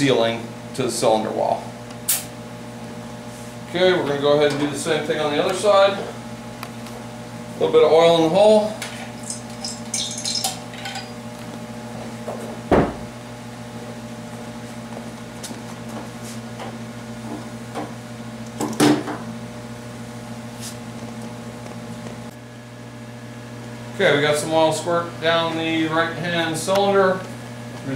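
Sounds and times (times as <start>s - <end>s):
steady electrical hum: 0.0s - 27.9s.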